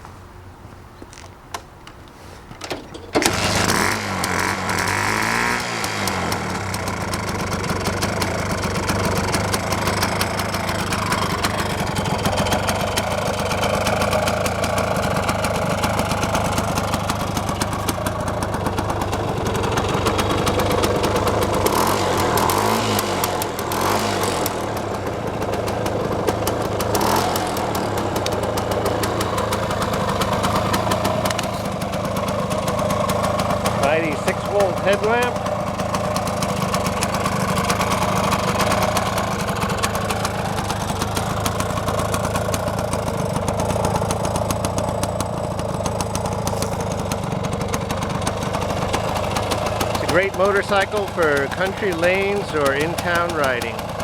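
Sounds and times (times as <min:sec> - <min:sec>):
two-stroke engine idling and revving: 0:03.0 - 0:54.0.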